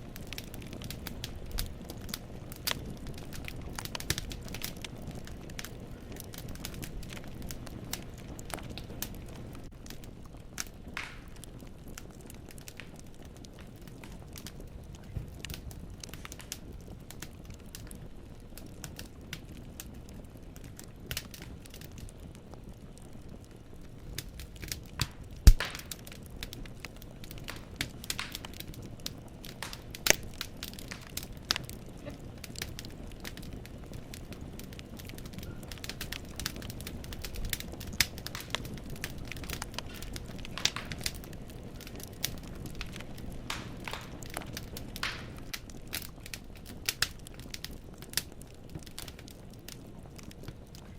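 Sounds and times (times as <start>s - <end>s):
logs crackling and popping: 0.0s - 50.9s
low rumble of flames: 0.0s - 50.9s
wood fire burning in fireplace: 0.0s - 50.9s.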